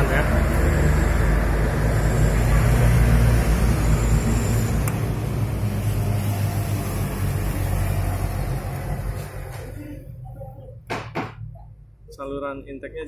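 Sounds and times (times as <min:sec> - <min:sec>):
diesel engine idling: 0:00.0 - 0:10.8.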